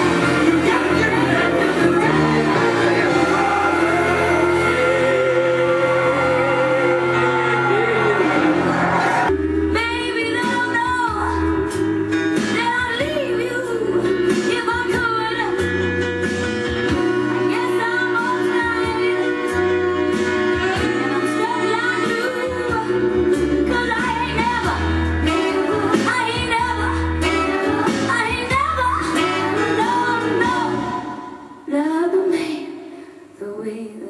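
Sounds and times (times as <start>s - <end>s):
woman singing: 0.0s - 5.4s, 9.3s - 15.8s, 17.4s - 19.7s, 20.6s - 34.0s
slow soul band music: 0.0s - 31.7s.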